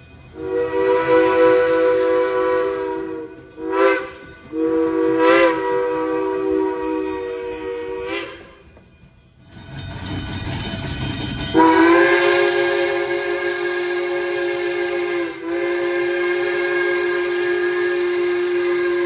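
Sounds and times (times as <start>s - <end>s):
steam whistle blasts: 0.3s - 8.7s, 11.5s - 19.0s.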